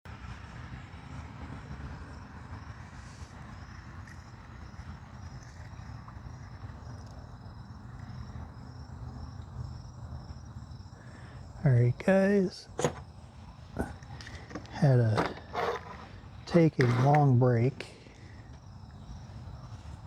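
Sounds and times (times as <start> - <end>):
low background rumble: 0.1 - 20.0.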